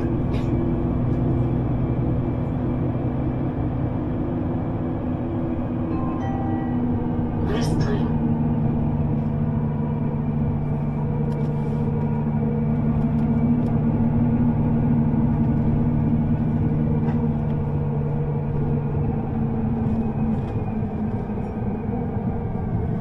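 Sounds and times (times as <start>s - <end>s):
low motor hum: 0.0s - 23.0s
underground train rumble: 0.0s - 23.0s.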